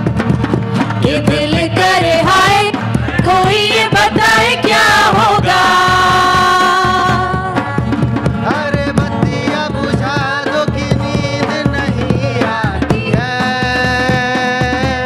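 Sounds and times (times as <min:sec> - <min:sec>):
hand drum and percussion beat: 0:00.0 - 0:15.0.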